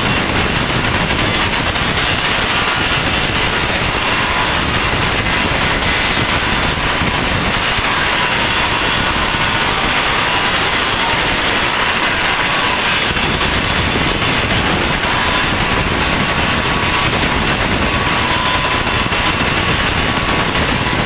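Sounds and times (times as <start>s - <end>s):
faint steady whines: 0.0s - 21.0s
saw machine ripping timber: 0.0s - 21.0s.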